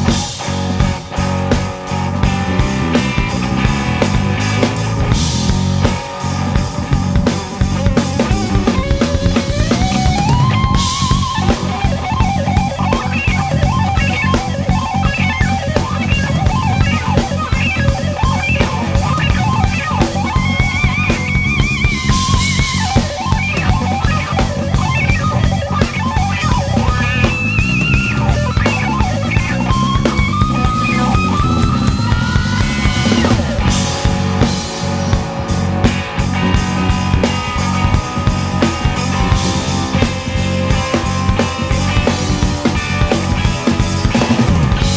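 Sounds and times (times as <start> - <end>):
bass guitar: 0.0 - 44.9
drum kit: 0.0 - 44.9
electric guitar lead: 0.0 - 44.9.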